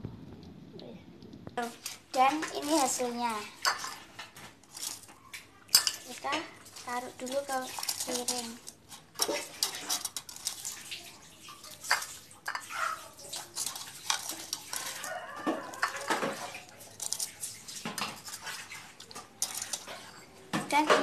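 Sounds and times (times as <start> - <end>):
utensils and dishes clinking: 1.6 - 21.0.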